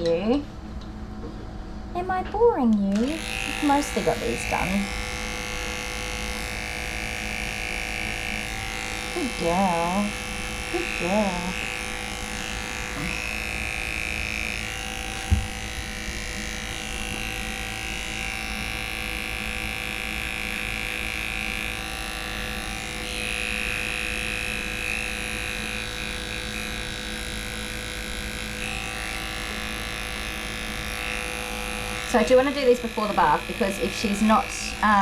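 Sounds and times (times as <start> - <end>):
electric clippers humming: 2.7 - 35.0.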